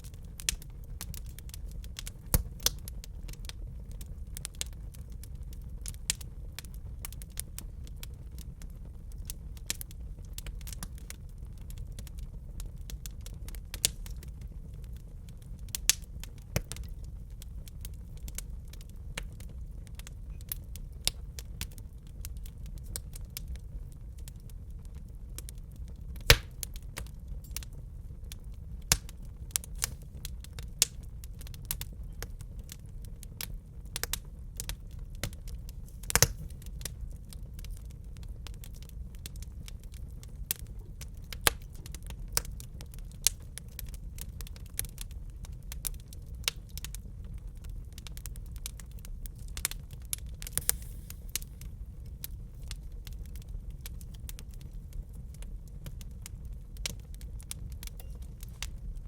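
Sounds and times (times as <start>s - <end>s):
low fire rumble: 0.0s - 59.0s
wood fire crackling: 0.0s - 59.0s.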